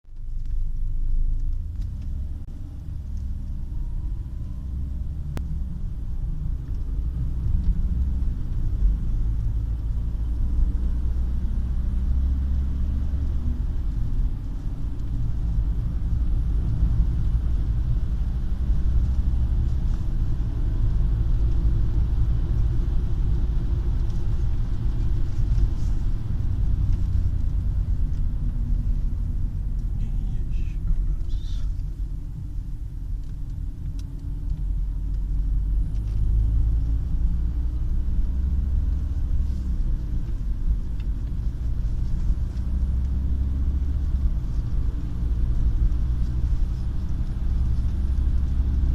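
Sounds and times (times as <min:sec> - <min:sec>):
car engine running: 0:00.1 - 0:48.9.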